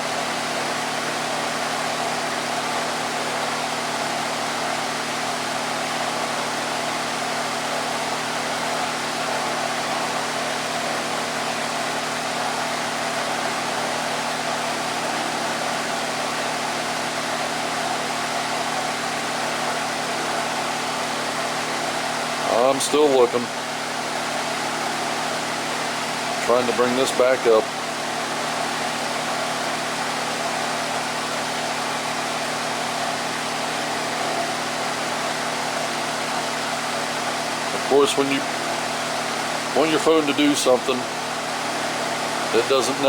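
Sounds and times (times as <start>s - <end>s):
electric fan running: 0.0s - 43.0s.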